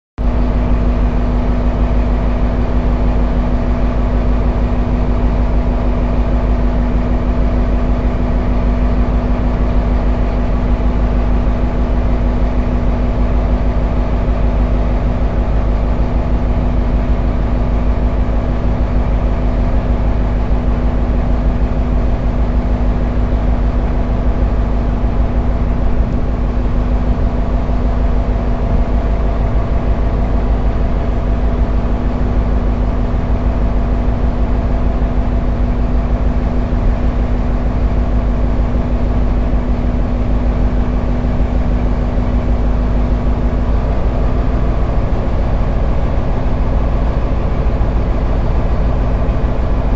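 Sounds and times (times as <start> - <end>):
diesel engine running: 0.2 - 49.9.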